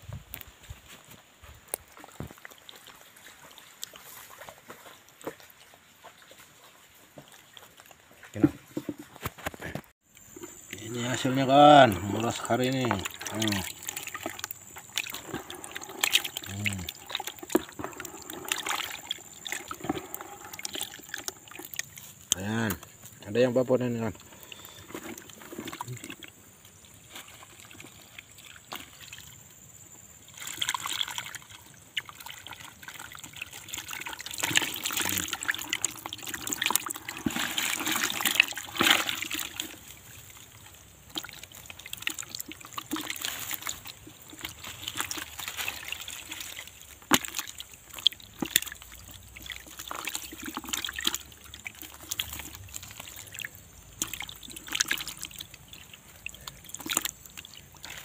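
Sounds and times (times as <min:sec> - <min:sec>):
water splashing in tub: 0:01.7 - 0:58.0.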